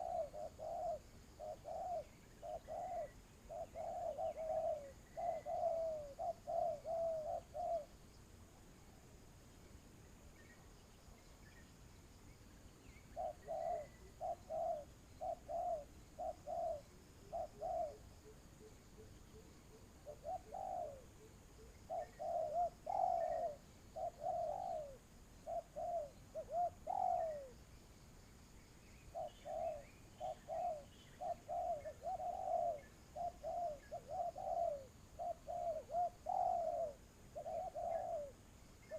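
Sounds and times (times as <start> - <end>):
dove cooing: 0.0 - 8.0, 13.1 - 27.6, 29.0 - 38.9.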